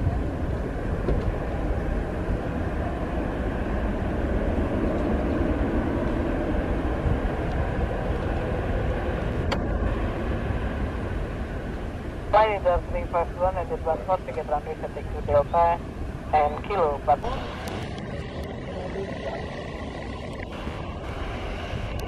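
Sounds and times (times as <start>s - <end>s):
distant jet engines rumbling: 0.0s - 22.0s.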